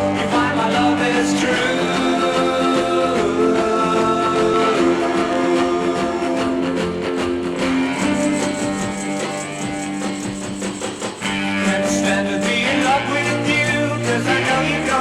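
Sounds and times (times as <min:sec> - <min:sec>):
soul band with guitar: 0:00.0 - 0:15.0.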